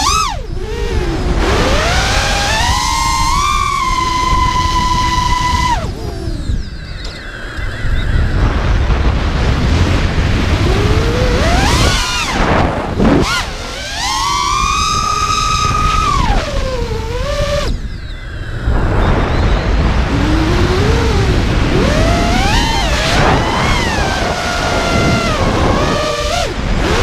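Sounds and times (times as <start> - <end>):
drone motors whining: 0.0 - 27.0
wind rumble on microphone: 0.0 - 27.0.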